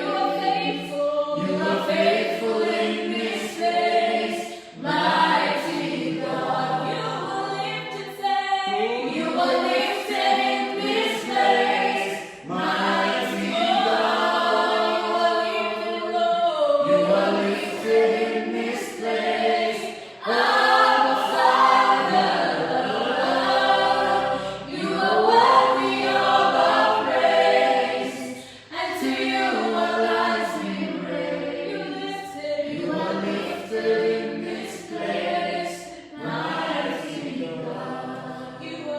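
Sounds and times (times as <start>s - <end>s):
group singing in harmony: 0.0s - 38.9s.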